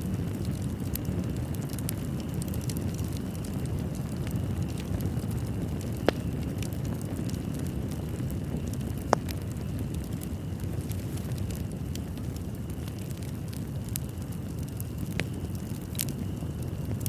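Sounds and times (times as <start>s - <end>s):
loud pops of burning wood: 0.0s - 17.0s
small crackles of burning wood: 0.0s - 17.0s
wood fire rumbling: 0.0s - 17.0s.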